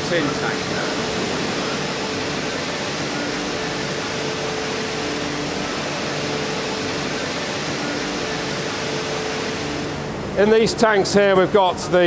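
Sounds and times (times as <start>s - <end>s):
machinery rushing noise: 0.0s - 10.5s
mid-pitched hum: 0.0s - 10.8s.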